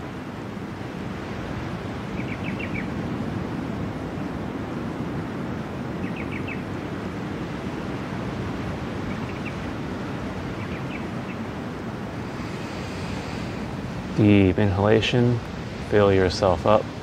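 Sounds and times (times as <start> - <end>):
ocean surf: 0.0 - 17.0
wind: 0.0 - 17.0.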